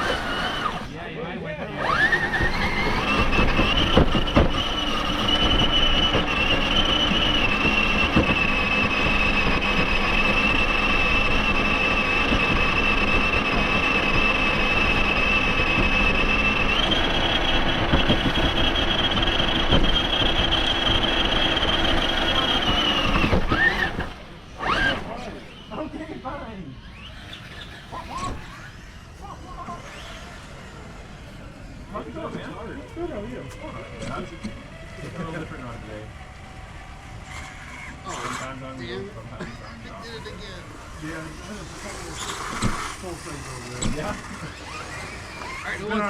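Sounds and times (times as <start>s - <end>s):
electric motor and gears whining: 0.0s - 46.0s.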